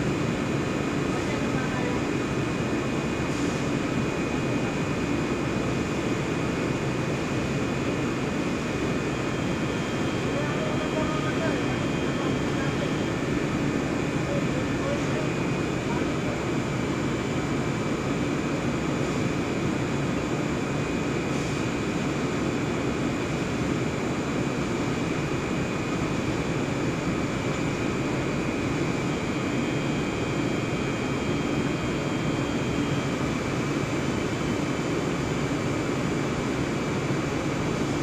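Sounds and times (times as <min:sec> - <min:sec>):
extrusion machinery and blower rushing: 0:00.0 - 0:38.0
faint extra whine: 0:00.0 - 0:38.0
high machine whine: 0:00.0 - 0:38.0.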